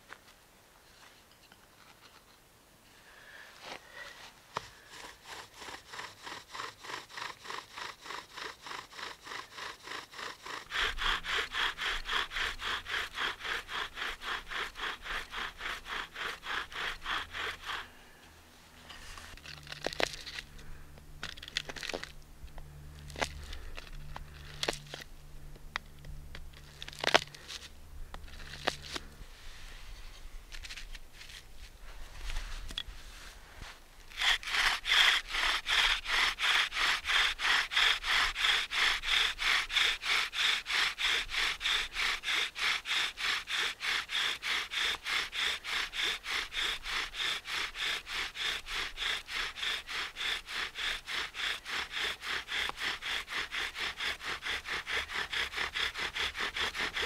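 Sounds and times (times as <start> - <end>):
knife scraping wood: 4.5 - 57.0
bow drill rasping: 4.6 - 57.0.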